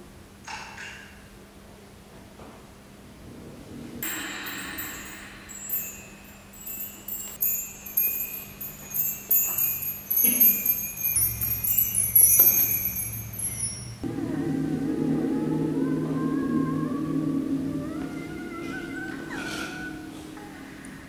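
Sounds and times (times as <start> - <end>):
held wavering note: 4.0 - 21.0
metallic chimes ringing: 4.0 - 21.0.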